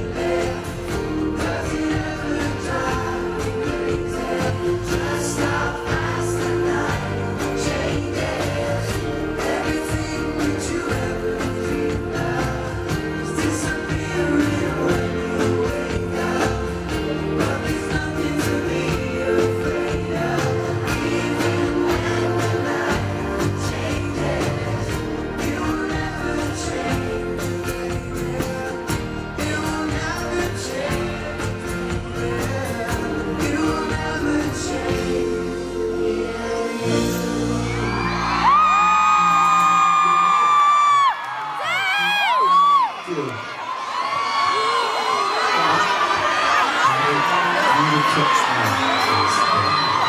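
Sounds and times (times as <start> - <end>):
lead and group vocals: 0.0 - 41.7
drums: 0.0 - 42.9
live pop band playing: 0.0 - 43.5, 44.2 - 50.0.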